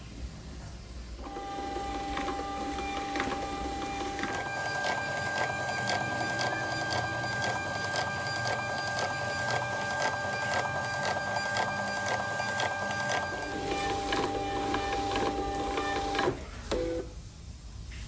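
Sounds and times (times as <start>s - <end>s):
label printer motor whine: 1.2s - 16.4s
printer ticking: 1.3s - 16.4s.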